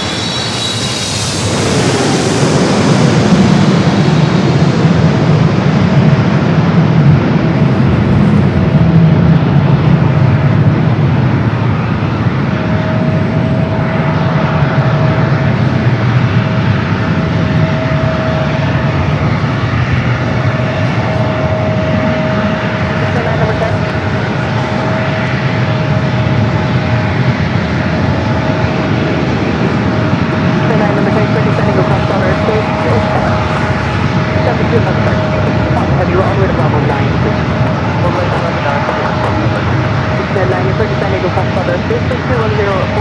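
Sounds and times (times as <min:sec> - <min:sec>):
jet engines rushing and whining: 0:00.0 - 0:43.0.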